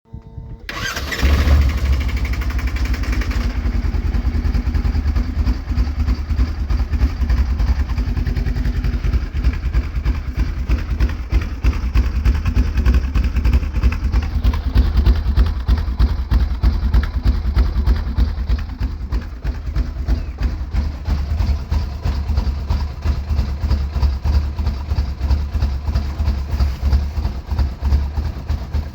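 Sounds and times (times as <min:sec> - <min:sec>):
engine starting and idling unevenly: 0:00.1 - 0:28.9.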